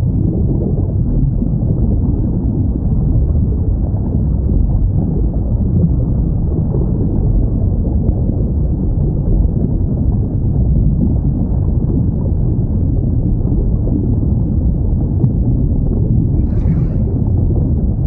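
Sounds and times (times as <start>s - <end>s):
underwater rumble: 0.0s - 18.0s.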